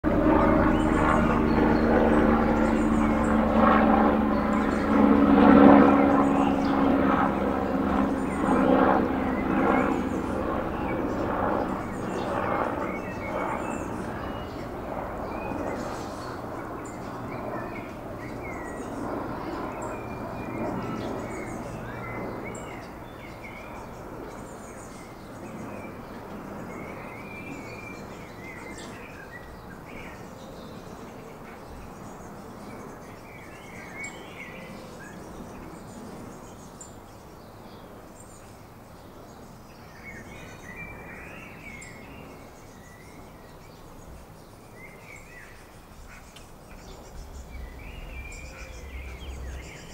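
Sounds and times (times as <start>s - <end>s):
small birds chirping: 0.1s - 49.9s.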